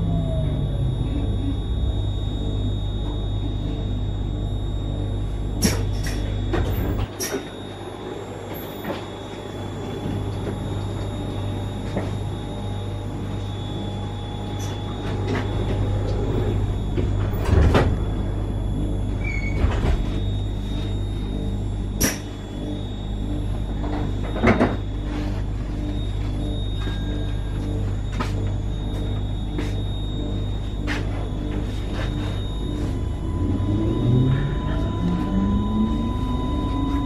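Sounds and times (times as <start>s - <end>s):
electric train humming: 0.0s - 37.0s.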